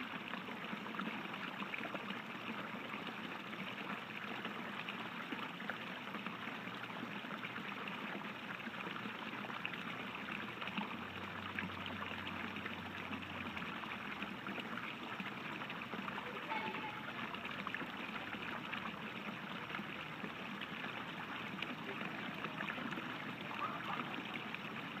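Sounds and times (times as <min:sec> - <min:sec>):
fountain jets splashing into water: 0:00.0 - 0:25.0.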